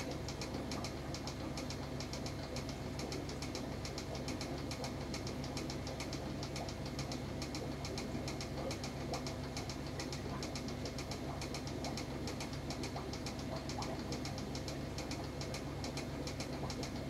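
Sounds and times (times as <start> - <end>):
low electrical hum: 0.0 - 17.0
rapid faint ticks: 0.0 - 17.0.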